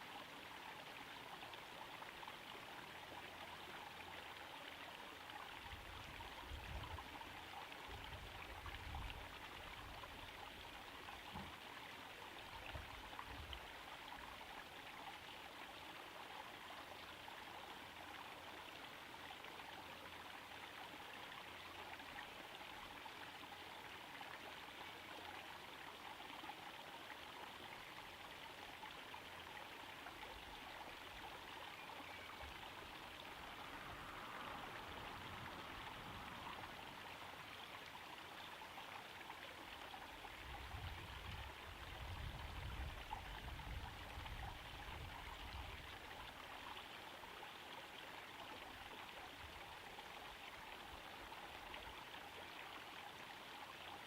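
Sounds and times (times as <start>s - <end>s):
small waterfall trickling into pond: 0.0s - 54.0s.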